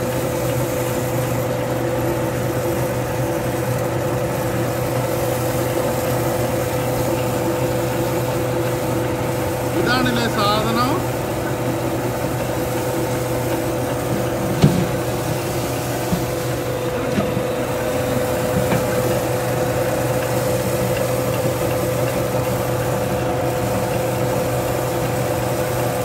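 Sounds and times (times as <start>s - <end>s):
rice mill humming: 0.0s - 26.0s
grain pouring: 0.1s - 26.0s.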